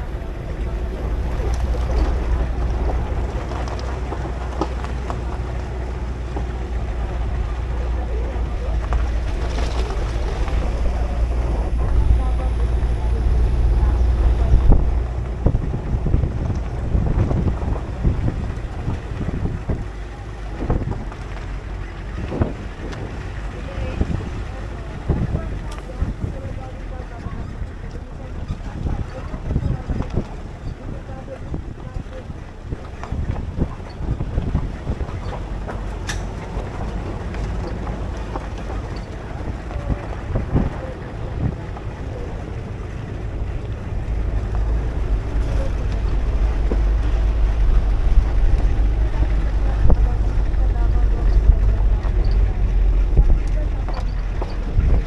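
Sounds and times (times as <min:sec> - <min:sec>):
low vehicle rumble: 0:00.0 - 0:55.0
wind buffeting microphone: 0:00.0 - 0:55.0.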